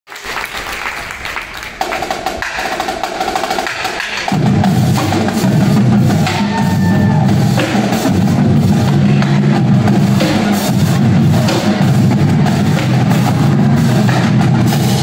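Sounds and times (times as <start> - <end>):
drumline playing rapid strokes: 0.1 - 15.0.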